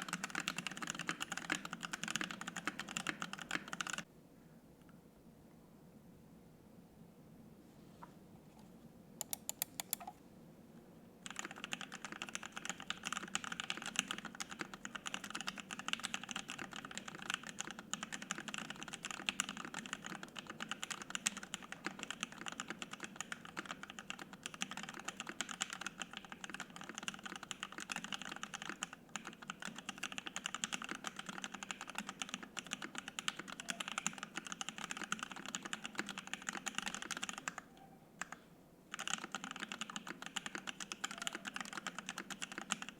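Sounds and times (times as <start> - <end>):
fast mechanical keyboard typing: 0.0 - 4.1, 11.2 - 37.6, 38.2 - 42.9.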